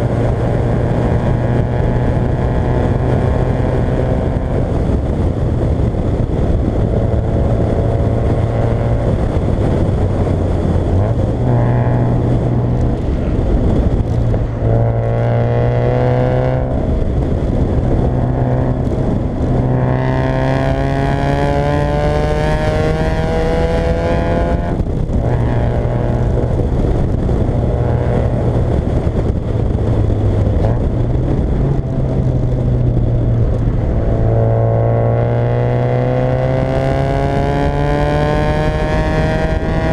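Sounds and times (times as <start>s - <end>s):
car engine revving under acceleration: 0.0s - 39.9s
road noise: 0.0s - 39.9s.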